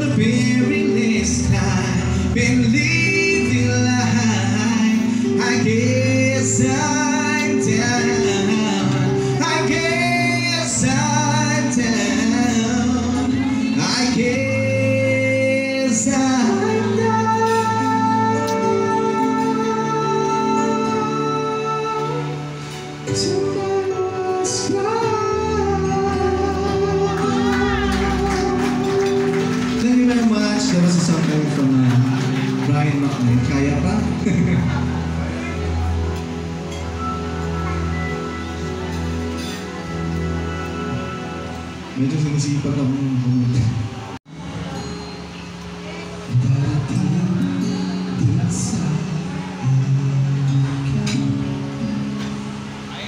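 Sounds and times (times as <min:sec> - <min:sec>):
person singing: 0:00.0 - 0:36.1, 0:41.9 - 0:51.8
live band playing: 0:00.0 - 0:53.0.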